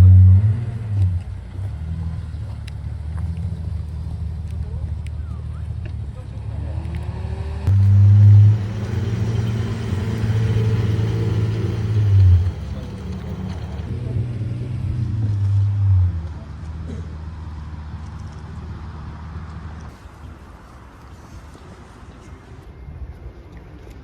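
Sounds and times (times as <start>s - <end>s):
car engine at low revs: 0.0s - 19.9s.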